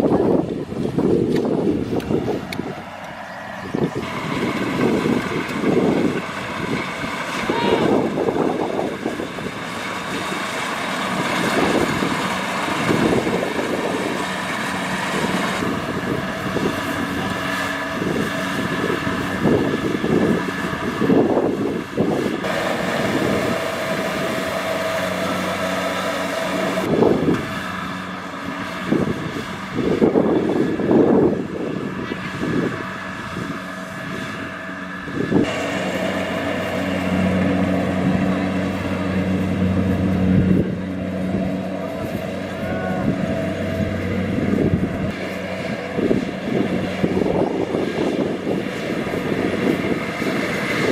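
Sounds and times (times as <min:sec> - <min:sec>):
combine harvester engine droning: 0:00.0 - 0:50.9.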